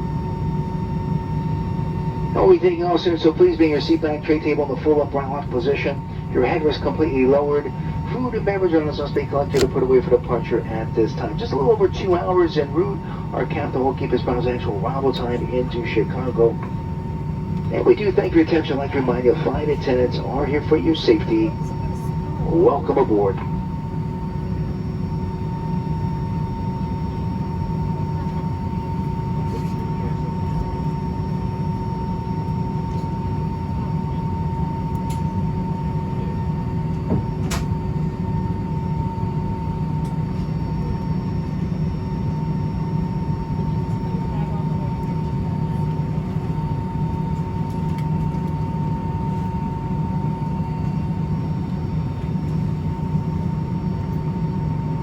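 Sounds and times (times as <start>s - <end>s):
aircraft cabin low rumble: 0.0s - 55.0s
steady whine: 0.0s - 55.0s.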